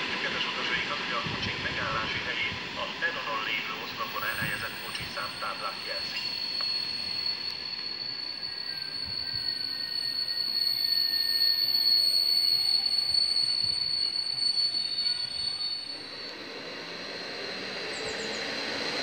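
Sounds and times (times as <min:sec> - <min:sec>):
high-pitched ringing of rails: 0:00.0 - 0:19.0.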